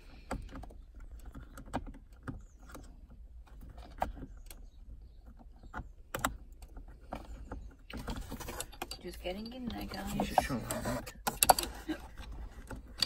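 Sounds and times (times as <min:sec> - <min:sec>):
clicks and knocks of metal and plastic: 0:00.0 - 0:13.0.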